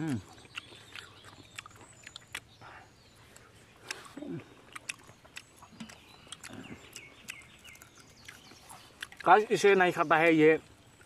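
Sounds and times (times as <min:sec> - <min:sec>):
chewing with mouth clicks: 0:00.0 - 0:09.5.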